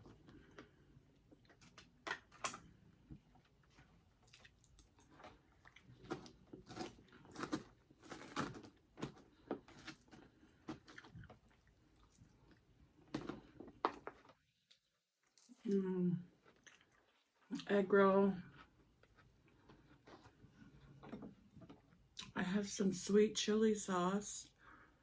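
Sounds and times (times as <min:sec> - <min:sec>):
chewing crunchy food: 0:00.0 - 0:17.7, 0:18.4 - 0:22.4.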